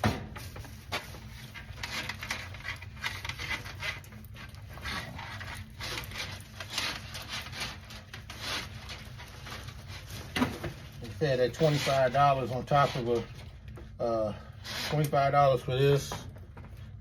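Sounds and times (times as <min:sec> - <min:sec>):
drain snake cable scraping: 0:00.5 - 0:13.9, 0:14.5 - 0:16.1.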